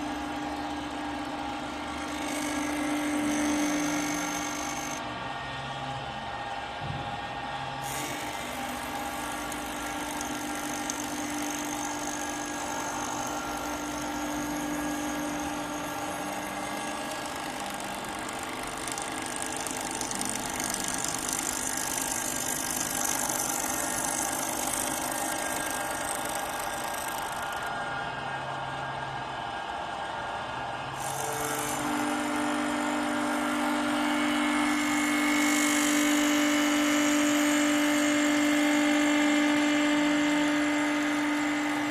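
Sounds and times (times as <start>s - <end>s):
lathe spindle whine: 0.0s - 41.9s.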